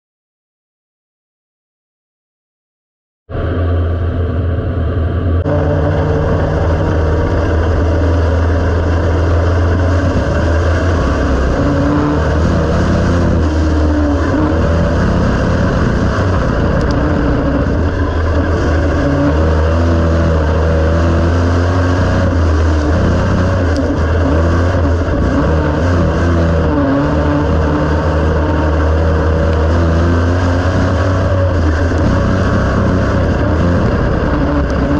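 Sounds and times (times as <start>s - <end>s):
race car engine running: 3.3s - 34.9s.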